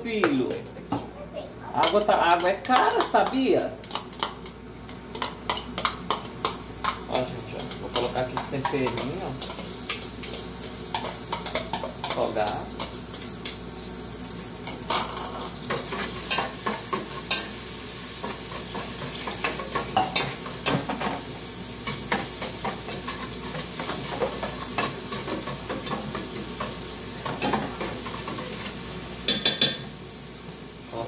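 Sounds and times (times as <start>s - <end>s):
seasoning sizzling in hot oil: 1.8s - 31.0s.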